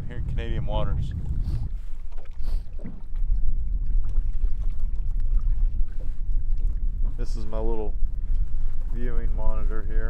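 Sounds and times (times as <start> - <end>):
choppy water: 0.0 - 10.0
wind rumble: 0.0 - 10.0.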